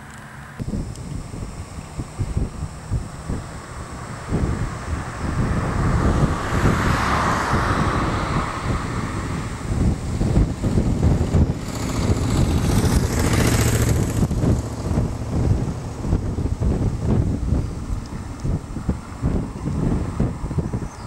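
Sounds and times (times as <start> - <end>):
military truck engines: 0.0 - 21.0
motorcycle engines: 0.0 - 21.0
wind buffeting microphone: 0.6 - 21.0.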